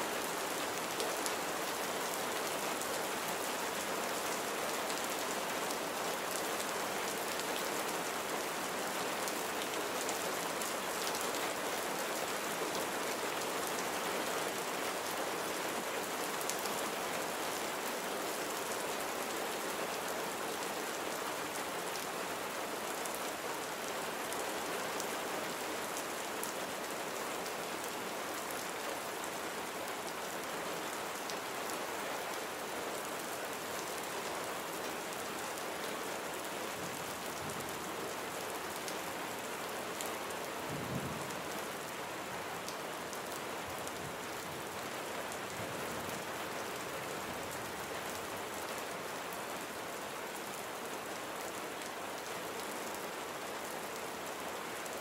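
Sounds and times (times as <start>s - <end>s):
rain pattering on surfaces: 0.1s - 55.0s.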